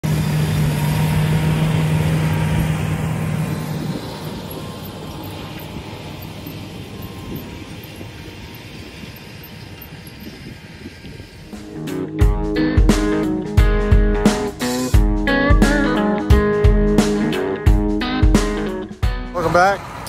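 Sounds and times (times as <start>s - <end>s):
tractor diesel engine hum: 0.0s - 20.0s.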